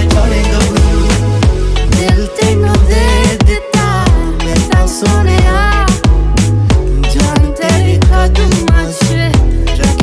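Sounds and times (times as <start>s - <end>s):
pop music with heavy bass beat: 0.0s - 10.0s.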